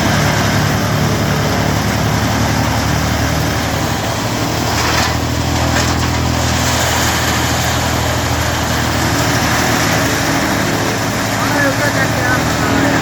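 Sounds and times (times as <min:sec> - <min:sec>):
wood chipper running: 0:00.0 - 0:13.0.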